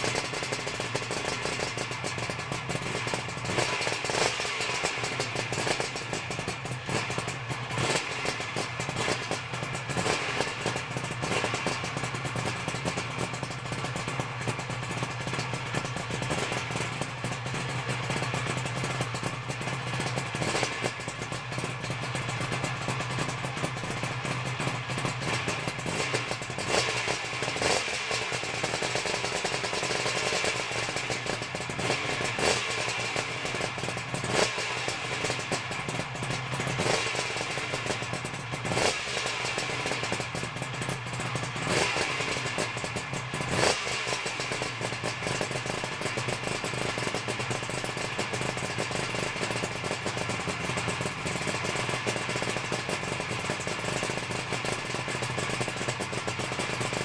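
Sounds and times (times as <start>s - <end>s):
motorcycle engine idling and blipping: 0.0s - 57.0s.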